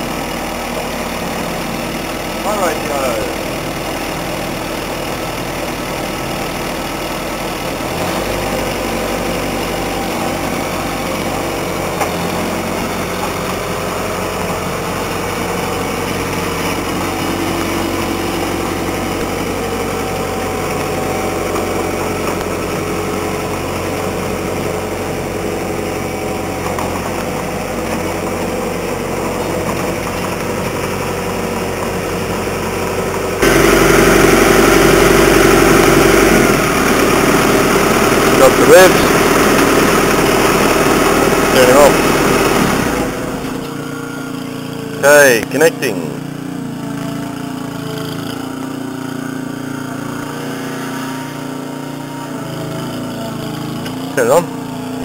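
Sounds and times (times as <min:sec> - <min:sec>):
stump grinder engine running: 0:00.0 - 0:55.0.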